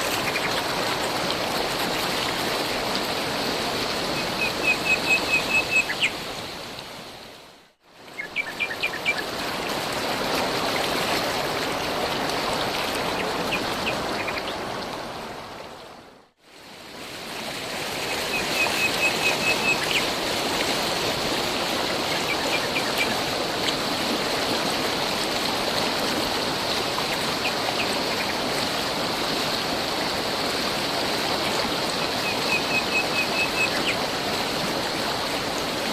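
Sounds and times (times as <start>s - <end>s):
stream of running water: 0.0s - 35.9s.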